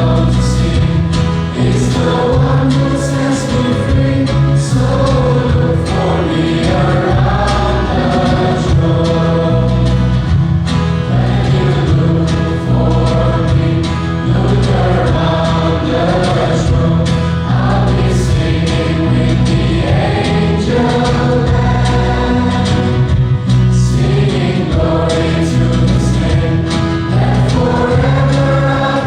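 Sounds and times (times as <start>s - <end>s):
choir of students singing: 0.0s - 29.0s.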